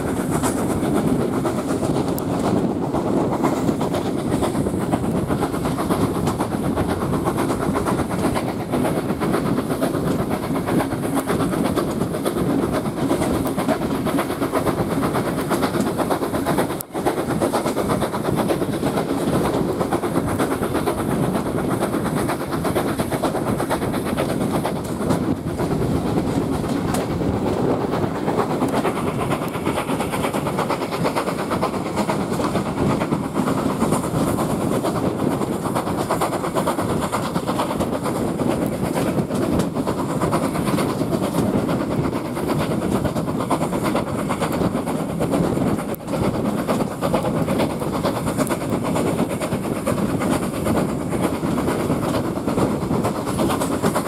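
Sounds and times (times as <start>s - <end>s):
train wheels rumbling on rails: 0.0s - 54.0s
wind buffeting microphone: 0.0s - 54.0s.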